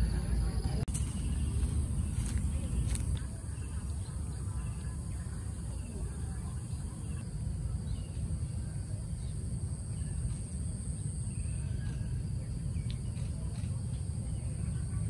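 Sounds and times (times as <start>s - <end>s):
steady low rumble: 0.0s - 15.0s
faint bird chirps: 0.9s - 15.0s.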